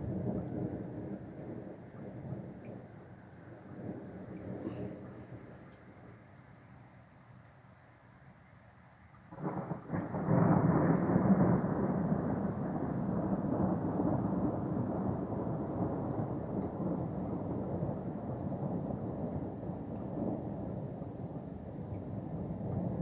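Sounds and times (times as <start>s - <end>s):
thunder rumbling: 0.0s - 6.2s, 9.3s - 23.0s.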